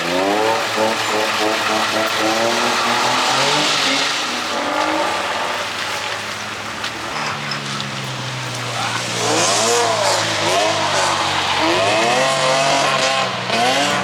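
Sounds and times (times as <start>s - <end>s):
car engine revving: 0.0s - 14.0s
rushing tire noise: 0.0s - 14.0s.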